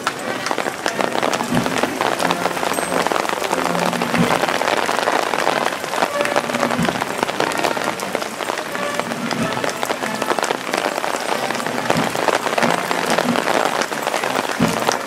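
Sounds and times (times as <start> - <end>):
rain on a wet road: 0.0 - 15.0.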